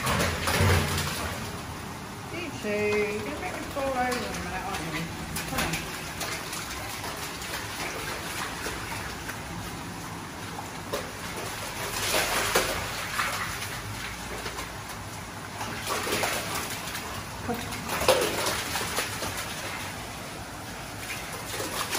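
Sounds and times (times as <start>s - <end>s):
splashing from wading: 0.0s - 21.9s
stream water running: 0.0s - 21.9s.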